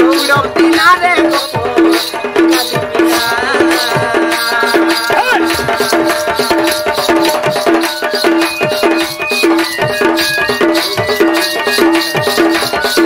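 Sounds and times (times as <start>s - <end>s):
hand drum beating: 0.0s - 13.0s
wavering melodic line: 0.0s - 13.0s.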